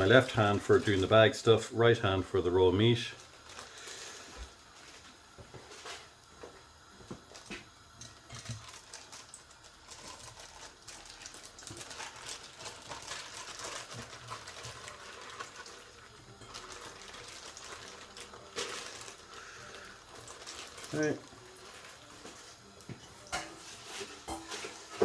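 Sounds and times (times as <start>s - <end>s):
plastic bag crinkling: 0.0s - 6.2s, 7.1s - 25.0s.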